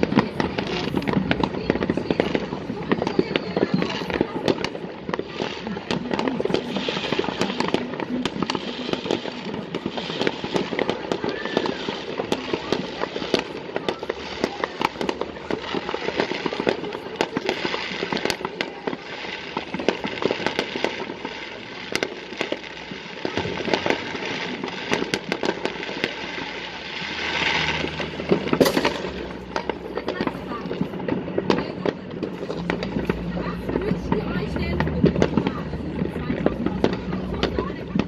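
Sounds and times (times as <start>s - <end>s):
fireworks crackling and banging: 0.0s - 38.0s.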